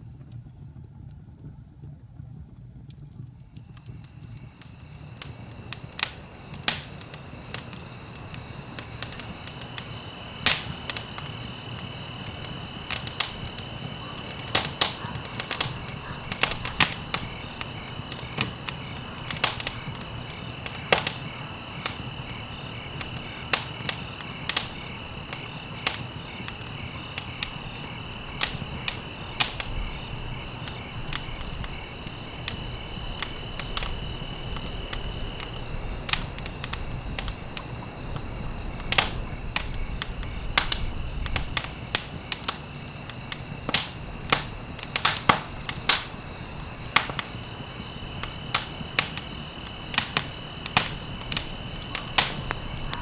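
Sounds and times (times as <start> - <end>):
wood fire crackling and popping: 0.0 - 53.0
crickets trilling: 1.3 - 53.0.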